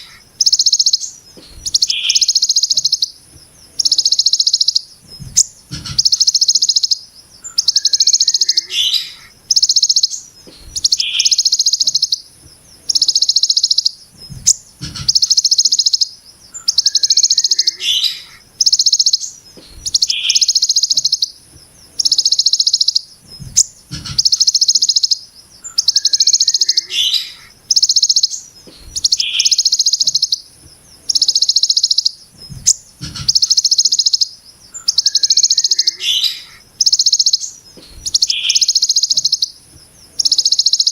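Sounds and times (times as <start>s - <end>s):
short high bird chirps: 0.0s - 21.4s, 22.0s - 40.9s
bird singing harsh buzzing phrases: 0.0s - 40.9s.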